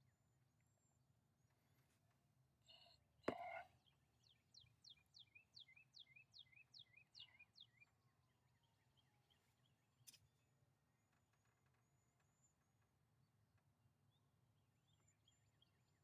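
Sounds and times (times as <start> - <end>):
faint bird song: 0.0 - 16.0.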